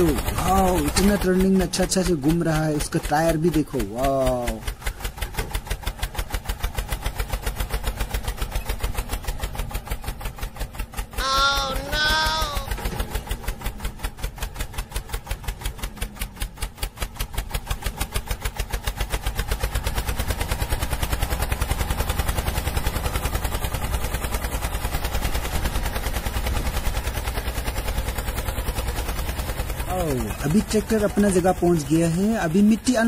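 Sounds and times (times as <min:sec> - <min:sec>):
tractor engine chugging: 0:00.0 - 0:33.0.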